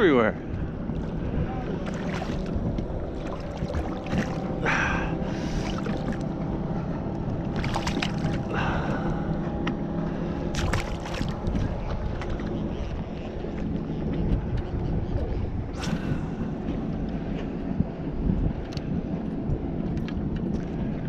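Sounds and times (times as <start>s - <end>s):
boat motor hum: 0.0s - 21.0s
wind on microphone: 0.0s - 21.0s.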